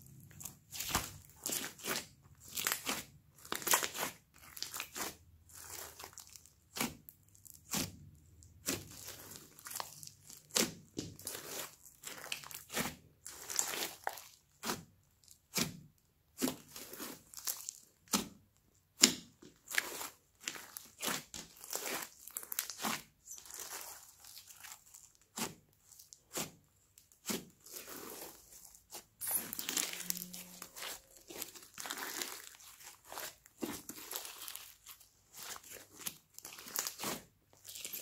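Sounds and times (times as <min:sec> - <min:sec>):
slime squelching and crackling: 0:00.0 - 0:38.0.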